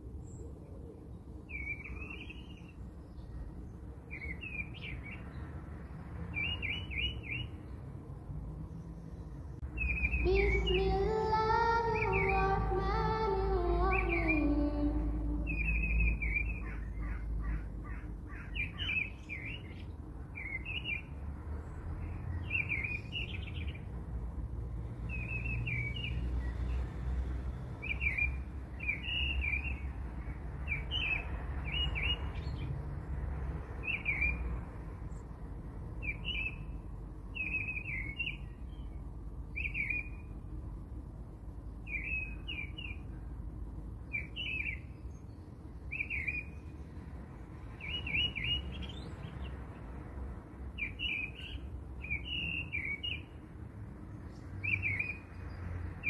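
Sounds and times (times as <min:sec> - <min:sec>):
bird chirping: 0:00.2 - 0:07.9, 0:08.6 - 0:23.9, 0:25.0 - 0:27.0, 0:27.8 - 0:32.7, 0:33.8 - 0:34.5, 0:36.0 - 0:40.4, 0:41.6 - 0:43.3, 0:44.0 - 0:49.7, 0:50.8 - 0:53.4, 0:54.2 - 0:56.0.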